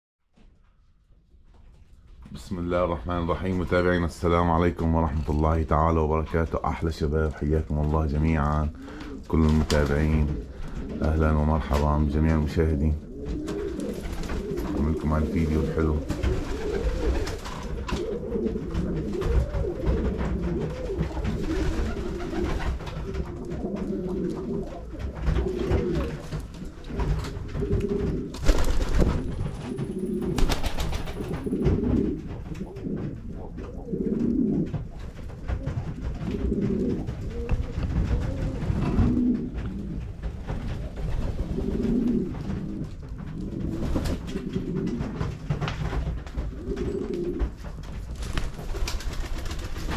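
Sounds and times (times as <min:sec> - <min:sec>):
pigeons cooing: 0:07.6 - 0:49.9.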